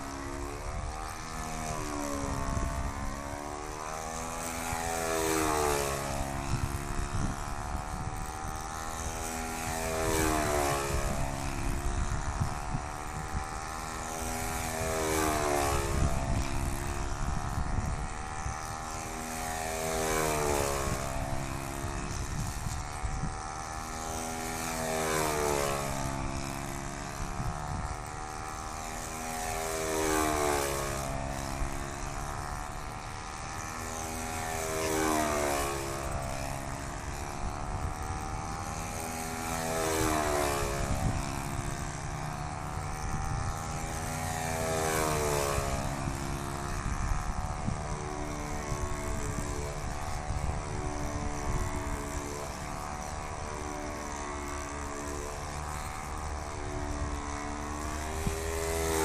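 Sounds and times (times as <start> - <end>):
model airplane engine running: 0.0 - 59.0.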